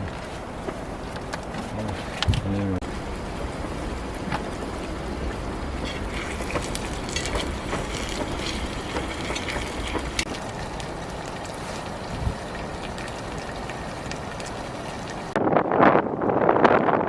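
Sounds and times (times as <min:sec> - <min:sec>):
gusting wind on microphone: 0:00.0 - 0:17.0.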